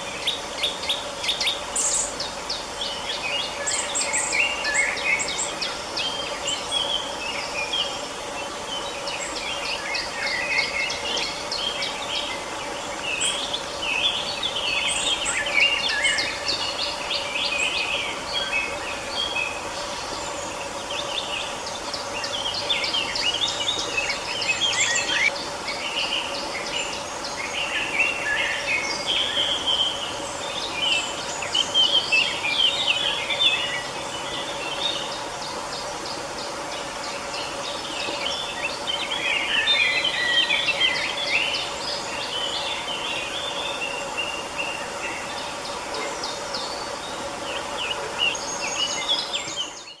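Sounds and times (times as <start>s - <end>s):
songbirds singing and chirping: 0.0s - 50.0s.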